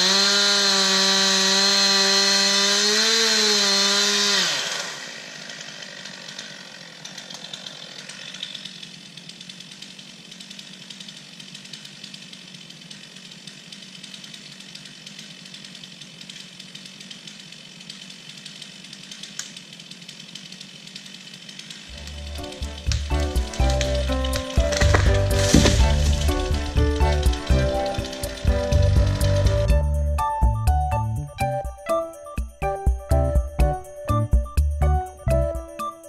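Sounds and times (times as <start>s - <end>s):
chainsaw idling: 0.0s - 30.0s.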